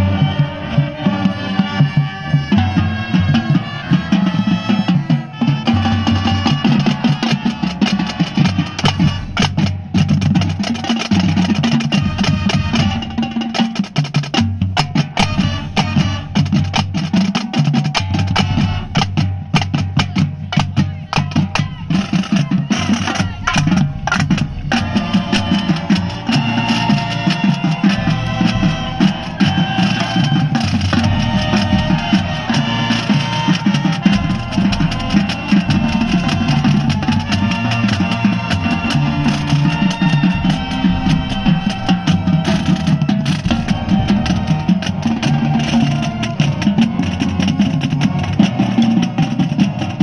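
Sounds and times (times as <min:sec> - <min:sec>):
brass and woodwind chords: 0:00.0 - 0:10.0, 0:11.9 - 0:13.6, 0:15.2 - 0:17.2, 0:18.3 - 0:19.2, 0:21.5 - 0:48.5
marching band playing: 0:00.0 - 0:50.0
rapid drum strokes: 0:00.0 - 0:50.0.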